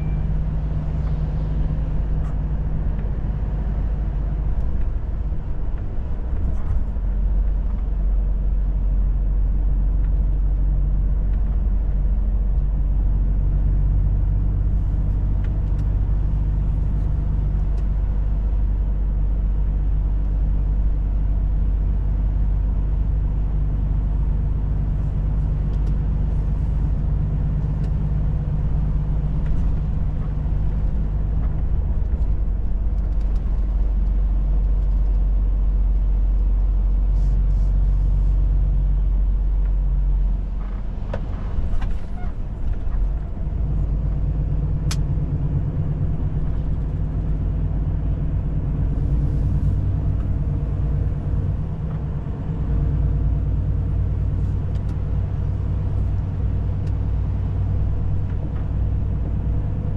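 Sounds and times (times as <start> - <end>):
truck diesel engine droning: 0.0 - 59.9.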